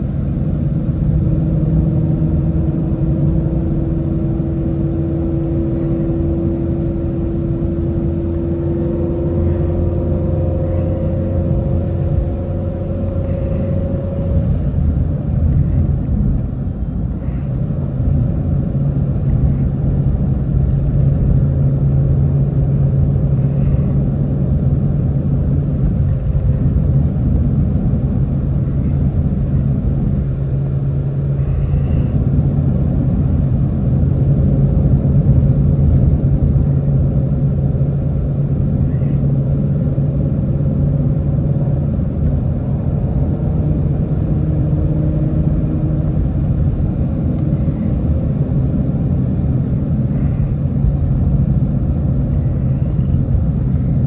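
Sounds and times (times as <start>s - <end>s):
car engine droning: 0.0s - 54.0s
low road rumble: 0.0s - 54.0s.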